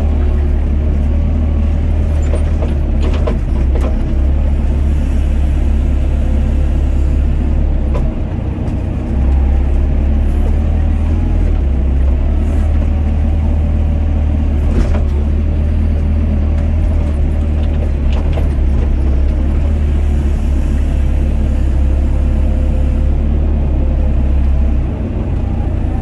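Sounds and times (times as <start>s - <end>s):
excavator diesel engine rumble: 0.0s - 26.0s.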